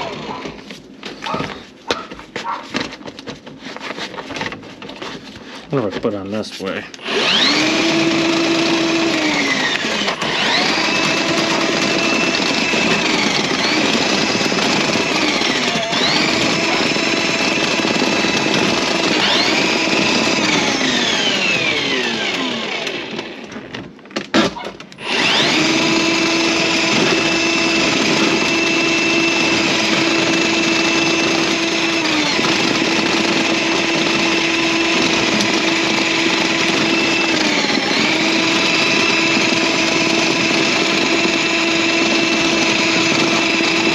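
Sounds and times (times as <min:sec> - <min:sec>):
drain snake motor running: 0:00.0 - 0:00.6, 0:07.0 - 0:23.4, 0:25.0 - 0:43.9.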